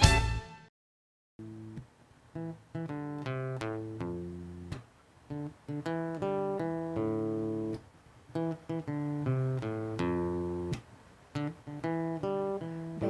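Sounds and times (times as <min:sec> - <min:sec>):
acoustic guitar picking: 0:02.3 - 0:13.0.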